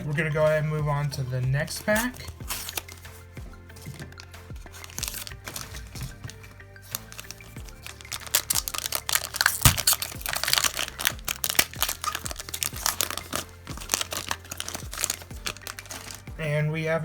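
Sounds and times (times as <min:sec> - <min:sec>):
background music: 0:00.0 - 0:17.0
foil wrapper crinkling and tearing: 0:01.7 - 0:16.4.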